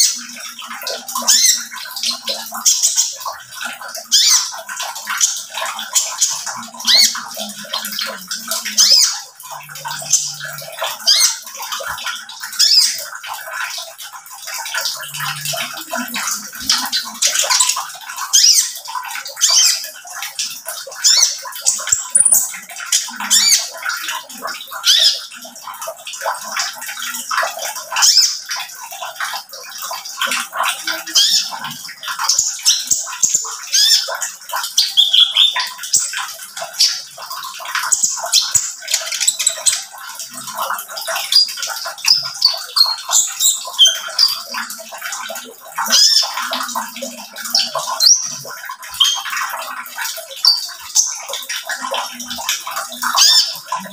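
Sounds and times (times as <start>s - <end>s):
bird chirping and twittering: 0.0s - 13.7s, 14.5s - 25.5s, 27.1s - 28.6s, 30.2s - 44.8s, 45.8s - 51.3s, 52.1s - 53.9s.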